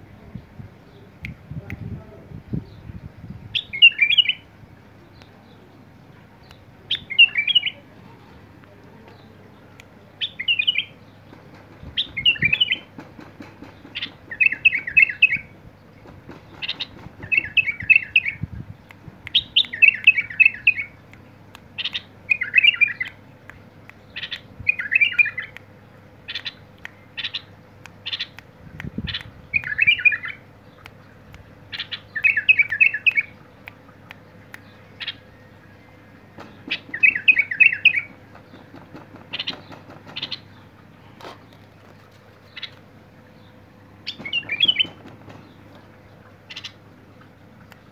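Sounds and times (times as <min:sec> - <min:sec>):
bird warbling song: 0:02.4 - 0:08.4, 0:09.0 - 0:47.9.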